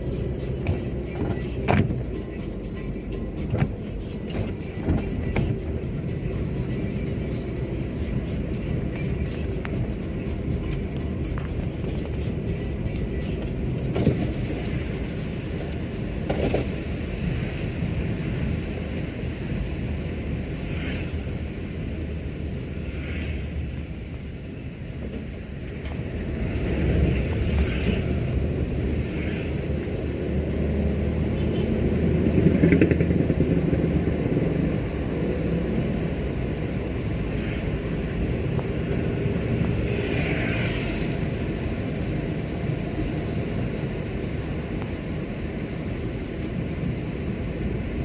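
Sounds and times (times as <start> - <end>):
car engine and road rumble: 0.0 - 48.0.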